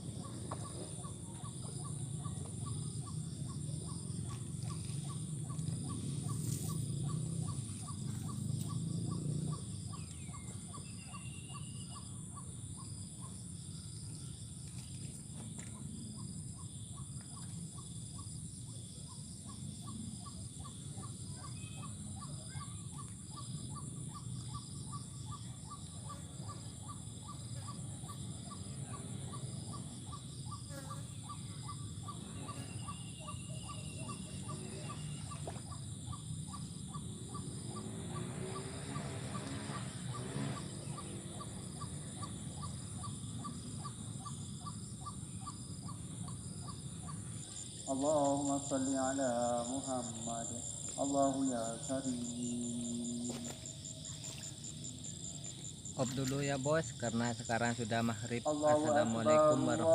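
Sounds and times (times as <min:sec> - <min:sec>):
crickets trilling: 0:00.0 - 0:59.9
short repeating insect call: 0:00.0 - 0:59.9.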